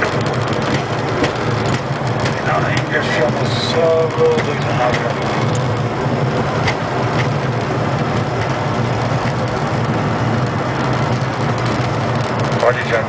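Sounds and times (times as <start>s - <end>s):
low rumble of engines and wheels: 0.0s - 13.0s.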